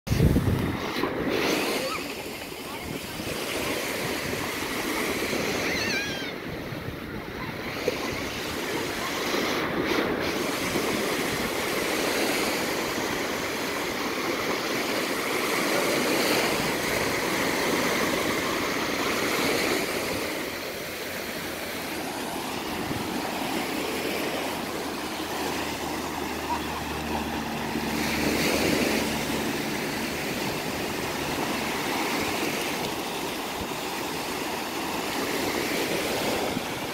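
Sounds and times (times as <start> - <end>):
small waves breaking on sandy shore: 0.1 - 36.9.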